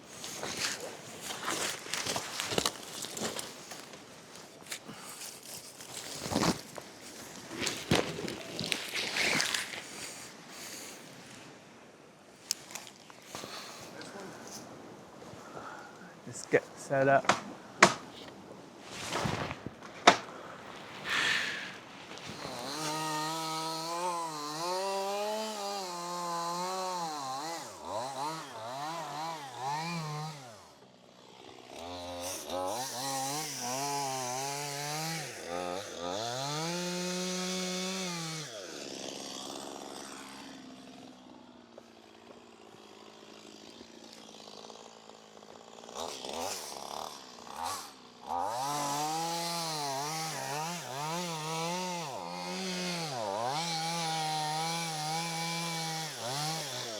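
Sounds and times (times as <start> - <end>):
chainsaw revving and cutting: 0.0 - 11.7, 12.4 - 16.6, 20.1 - 56.9.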